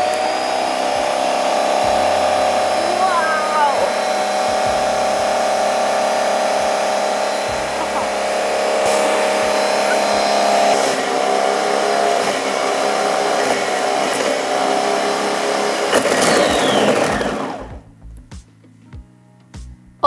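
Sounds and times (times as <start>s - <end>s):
blender motor running: 0.0s - 17.8s.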